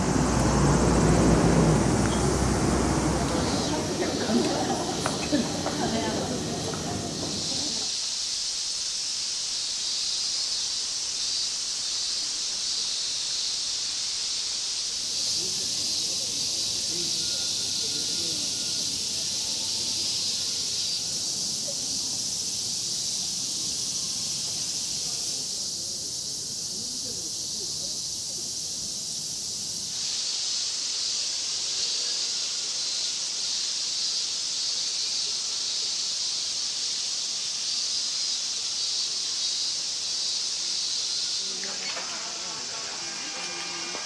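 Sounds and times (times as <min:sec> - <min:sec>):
cicadas buzzing: 0:00.0 - 0:44.0.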